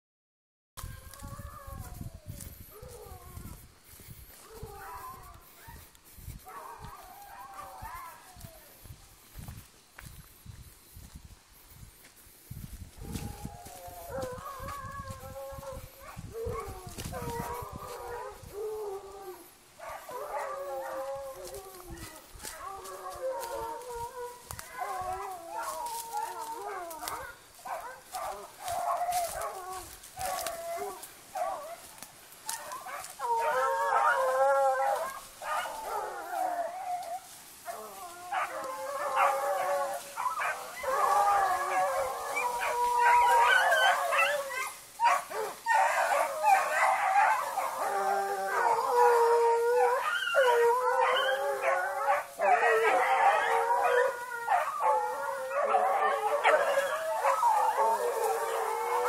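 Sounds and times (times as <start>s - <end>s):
dogs baying and howling: 0.8s - 10.1s, 12.6s - 59.0s.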